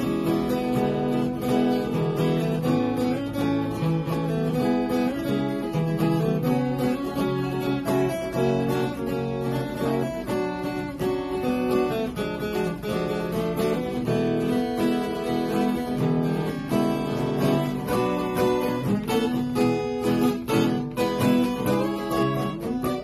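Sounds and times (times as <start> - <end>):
acoustic guitars playing: 0.0 - 23.0.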